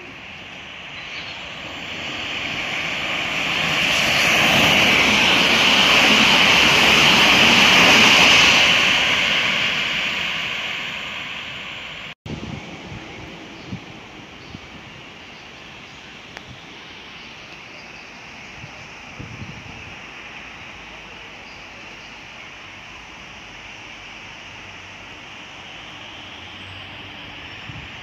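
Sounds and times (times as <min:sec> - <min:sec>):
electric train passing: 0:00.0 - 0:28.0.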